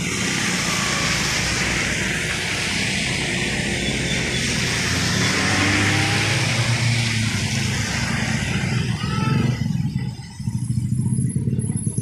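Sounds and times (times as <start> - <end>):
motorcycles passing: 0.0 - 12.0.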